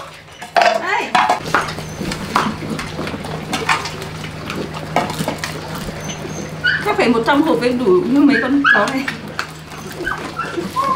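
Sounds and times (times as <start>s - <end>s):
puppies lapping and chewing: 0.0s - 10.9s.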